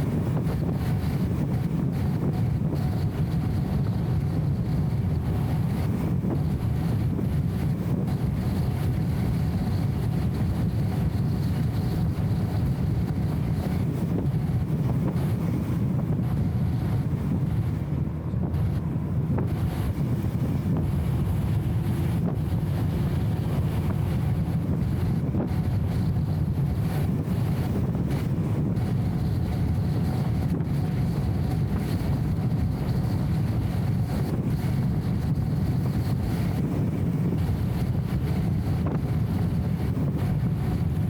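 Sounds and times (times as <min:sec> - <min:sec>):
car engine droning: 0:00.0 - 0:41.0
road noise: 0:00.0 - 0:41.0.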